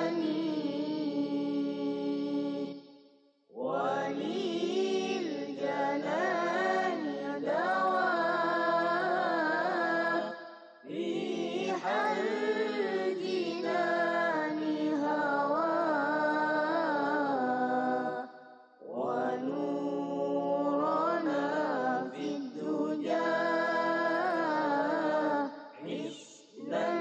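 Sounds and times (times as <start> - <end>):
boys reciting melodically: 0.0 - 2.8, 3.7 - 18.2, 19.0 - 27.0.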